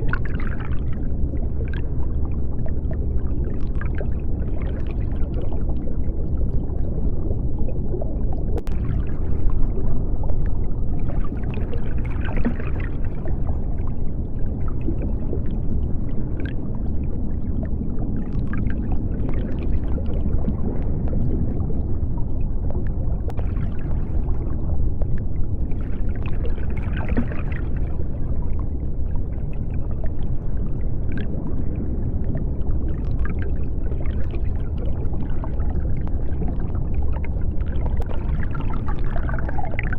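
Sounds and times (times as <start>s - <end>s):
bubbling gurgling water: 0.0s - 39.9s
deep underwater rumble: 0.0s - 39.9s.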